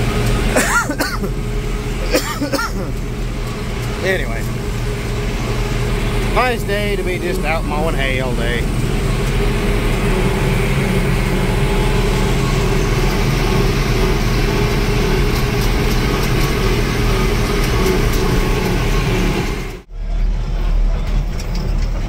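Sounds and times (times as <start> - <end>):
mower drive noise: 0.0 - 22.0
tractor engine running under load: 0.0 - 22.0.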